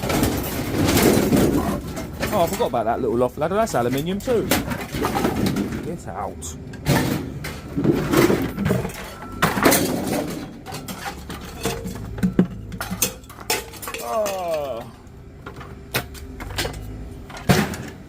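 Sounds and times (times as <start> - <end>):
scrap metal clanking: 0.0 - 6.2, 6.8 - 18.0.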